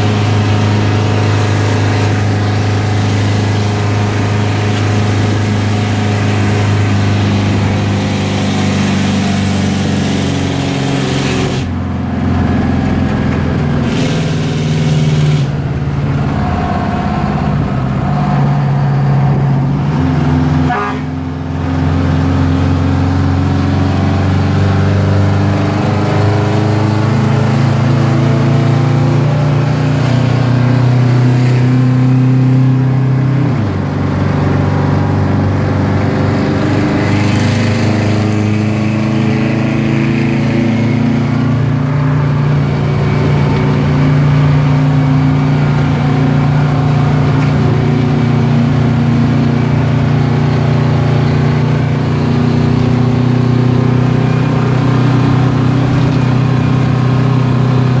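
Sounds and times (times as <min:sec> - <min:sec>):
diesel truck engine pulling: 0:00.0 - 0:58.0.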